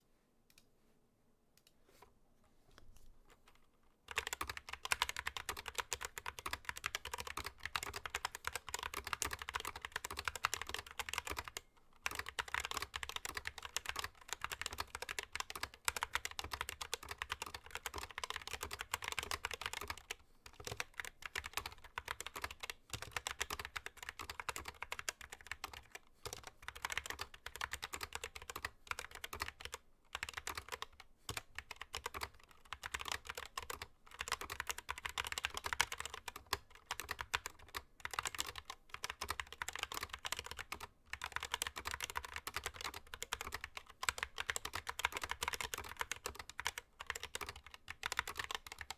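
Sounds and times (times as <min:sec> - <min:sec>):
fast mechanical keyboard typing: 0:04.1 - 0:48.9.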